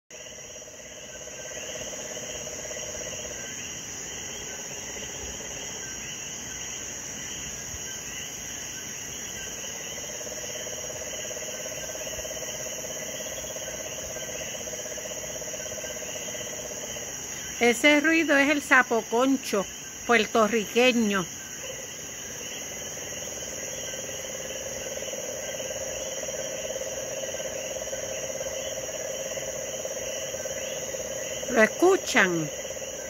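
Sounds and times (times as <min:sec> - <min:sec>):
insects chorus: 0:00.1 - 0:33.0.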